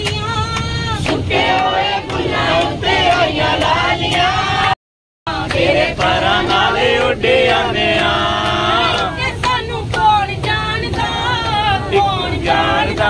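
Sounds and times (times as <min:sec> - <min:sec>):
steady low rumble: 0:00.0 - 0:13.0
voices singing devotional song: 0:00.0 - 0:13.0.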